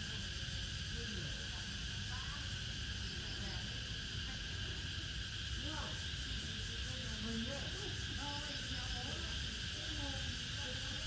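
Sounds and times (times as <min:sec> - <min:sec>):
faint voices murmuring: 0:00.0 - 0:11.0
high insect chorus: 0:00.0 - 0:11.0.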